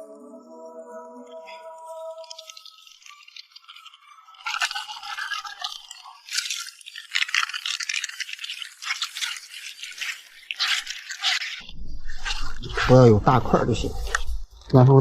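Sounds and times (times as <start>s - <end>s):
damp bait scraping by hand: 2.1s - 14.6s.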